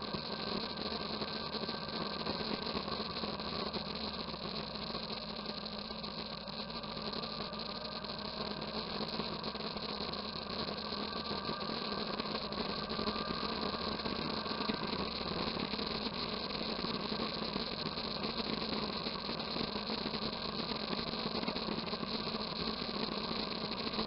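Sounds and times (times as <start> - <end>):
constant noise haze: 0.0 - 24.0.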